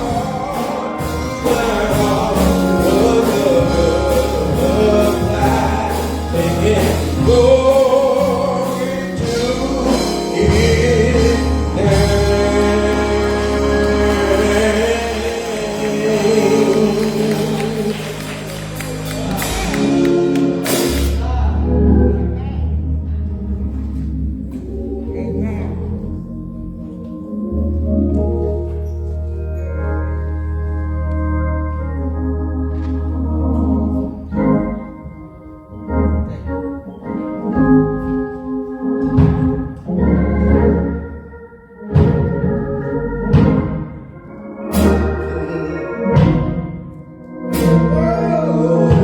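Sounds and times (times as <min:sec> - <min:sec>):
gospel singing: 0:00.0 - 0:22.5, 0:23.4 - 0:49.0
deep bass line: 0:00.0 - 0:41.2, 0:41.9 - 0:44.1, 0:44.7 - 0:49.0
church organ playing chords: 0:00.0 - 0:49.0.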